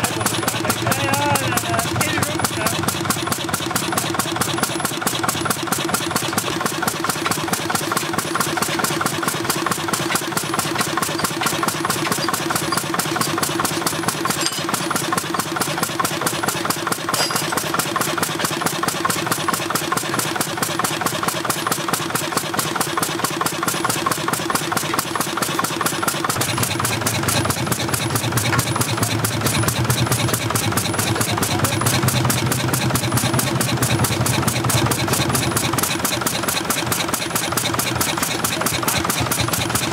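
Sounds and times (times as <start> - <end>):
old stationary engine running: 0.0 - 39.9.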